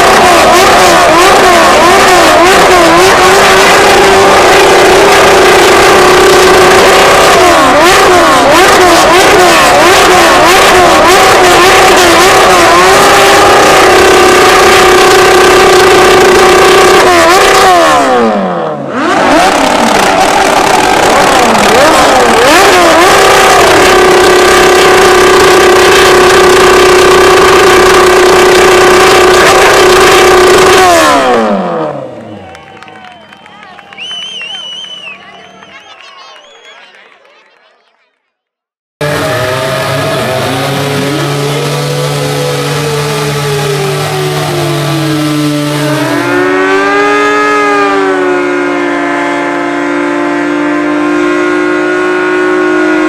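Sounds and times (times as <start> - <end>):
motorcycle engine revving high: 0.0 - 32.6, 39.0 - 53.0.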